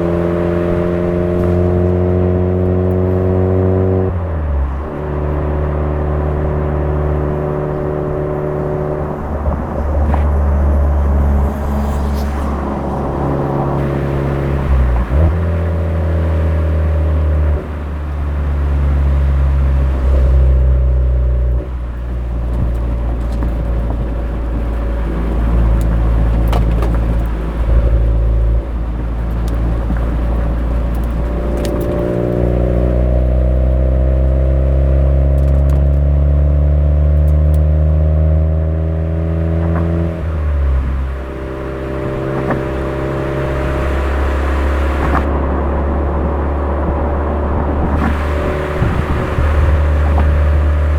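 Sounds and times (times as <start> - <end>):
car exhaust drone: 0.0 - 50.9.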